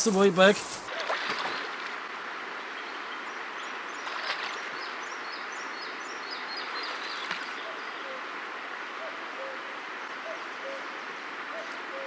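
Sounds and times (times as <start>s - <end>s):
steady outdoor hiss: 0.0s - 12.0s
songbird chirping: 0.8s - 12.0s.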